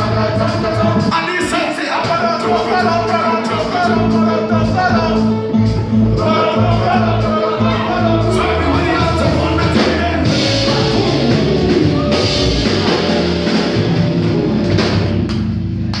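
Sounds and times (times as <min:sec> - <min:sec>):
person singing: 0:00.0 - 0:13.6
drum kit: 0:00.0 - 0:16.0
guitar: 0:00.0 - 0:16.0.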